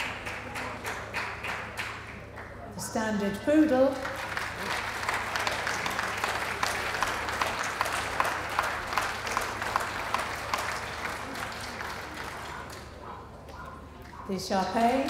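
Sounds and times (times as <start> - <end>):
audience clapping: 0.0 - 2.8, 3.5 - 15.0.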